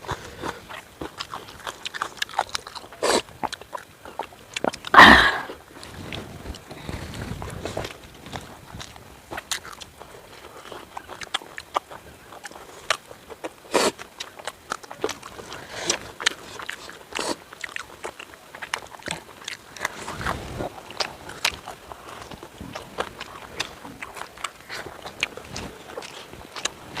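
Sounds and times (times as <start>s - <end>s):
person chewing and biting: 0.0s - 5.6s, 6.5s - 27.0s.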